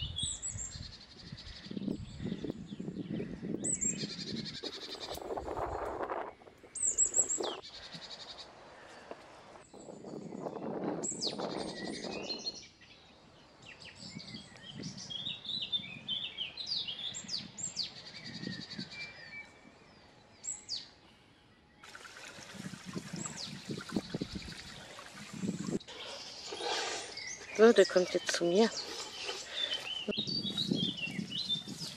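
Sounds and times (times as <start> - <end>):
songbirds chirping and whistling: 0.0 - 31.9.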